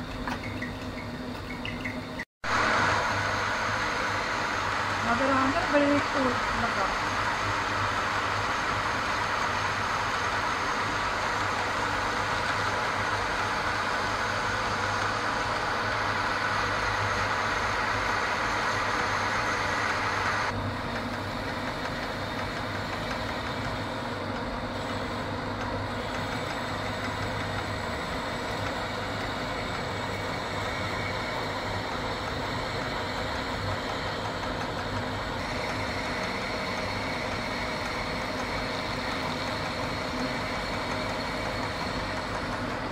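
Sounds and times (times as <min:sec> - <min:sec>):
lathe motor hum: 0:00.0 - 0:42.9.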